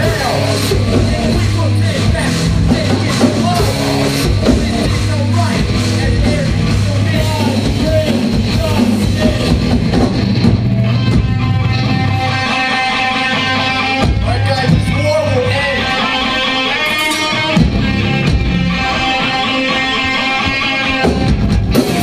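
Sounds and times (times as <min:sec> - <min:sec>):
vocals: 0:00.0 - 0:10.3, 0:12.0 - 0:22.0
metal band playing: 0:00.0 - 0:22.0.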